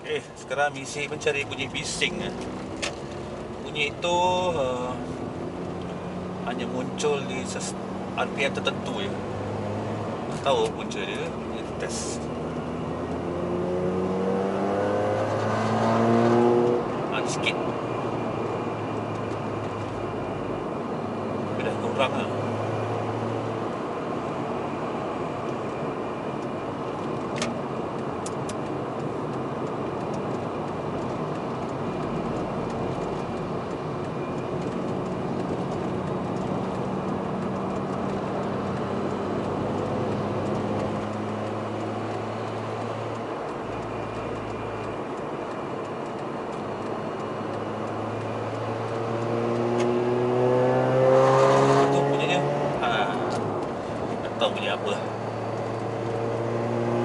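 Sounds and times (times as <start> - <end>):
rotary engine running and revving: 1.2 - 57.0.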